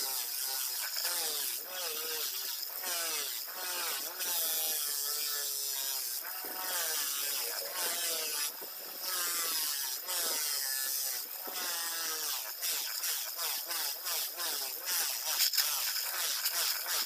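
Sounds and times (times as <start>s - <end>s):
bench grinder whine: 0.0s - 15.3s
rasping bursts: 0.0s - 17.0s.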